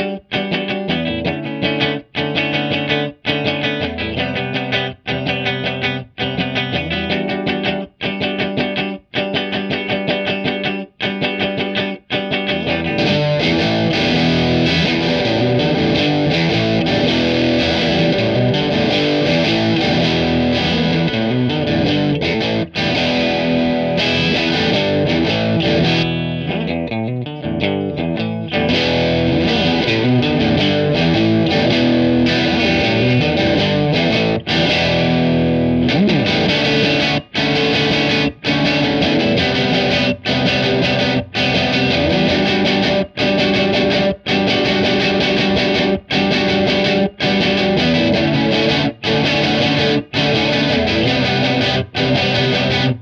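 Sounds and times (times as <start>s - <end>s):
electric guitar riff with chorus: 0.0s - 53.0s.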